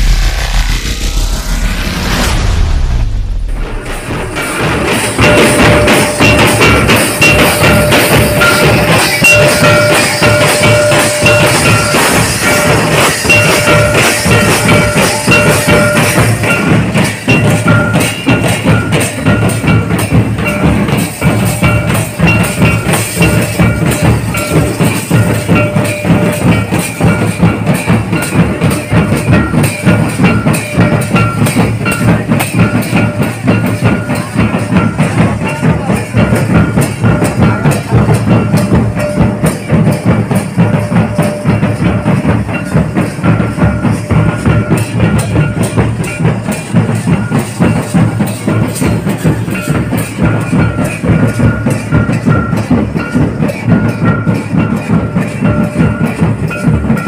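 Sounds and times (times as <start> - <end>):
drum band playing fast: 0.0 - 57.0.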